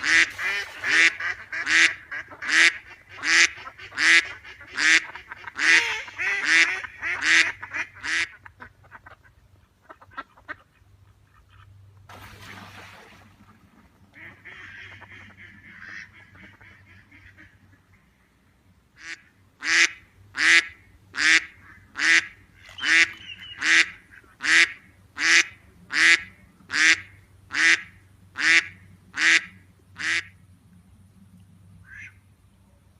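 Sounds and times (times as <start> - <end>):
ducks quacking: 0.0 - 11.8, 13.4 - 18.2, 19.0 - 30.4, 31.8 - 32.2.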